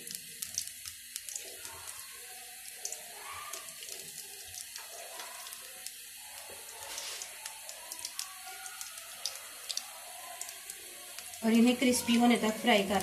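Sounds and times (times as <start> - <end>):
potato wedges frying in oil: 0.0 - 13.0.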